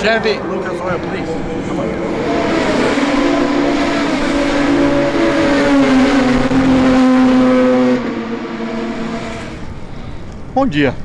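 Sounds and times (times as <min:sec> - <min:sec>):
race car engines running: 0:00.0 - 0:10.6.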